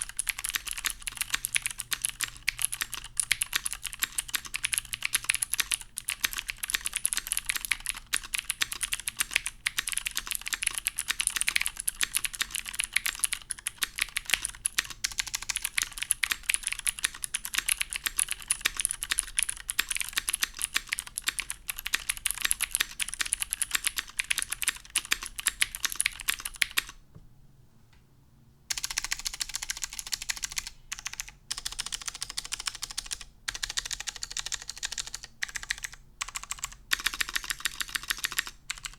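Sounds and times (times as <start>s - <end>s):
fast typing on a mechanical keyboard: 0.0s - 27.0s, 28.7s - 38.9s.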